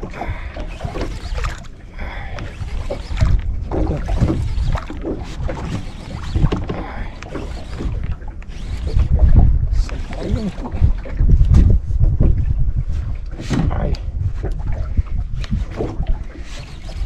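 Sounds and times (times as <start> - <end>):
water lapping against boat hull: 0.0 - 17.0
wind buffeting microphone: 0.0 - 17.0.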